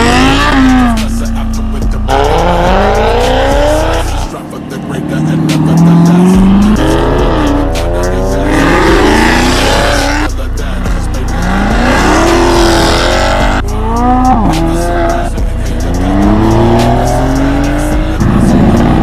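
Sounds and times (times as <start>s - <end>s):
background music with bass: 0.0s - 19.0s
car engine revving: 0.0s - 19.0s.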